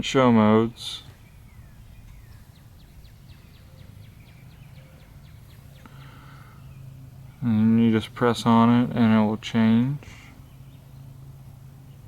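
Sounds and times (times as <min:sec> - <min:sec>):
bird chirping: 0:00.0 - 0:12.0
low steady hum: 0:00.0 - 0:12.0.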